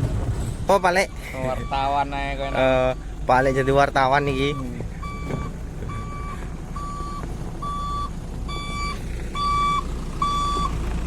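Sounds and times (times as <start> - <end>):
diesel engine rumble: 0.0 - 11.0
travel alarm beeping: 1.0 - 10.8.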